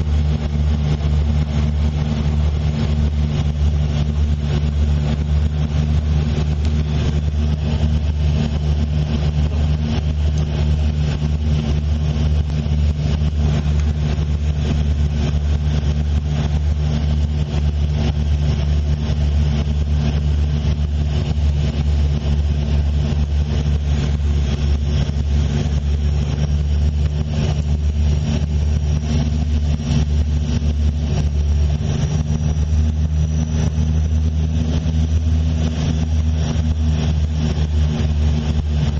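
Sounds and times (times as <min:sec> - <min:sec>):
turboprop engines droning in cabin: 0:00.0 - 0:38.9.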